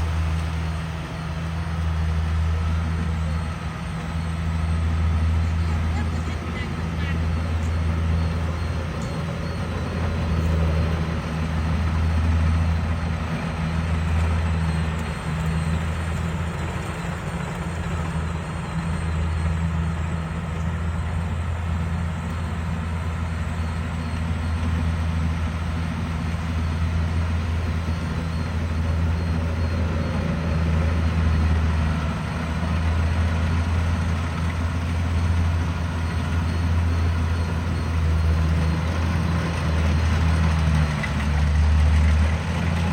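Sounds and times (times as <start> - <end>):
combine harvester diesel engine: 0.0 - 42.9.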